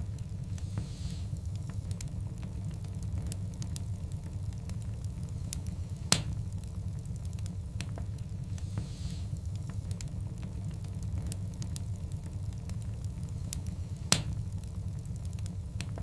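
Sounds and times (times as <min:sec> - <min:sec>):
low rumble of flames: 0:00.0 - 0:16.0
sharp pops from burning logs: 0:00.0 - 0:16.0
wood fire crackling: 0:00.0 - 0:16.0.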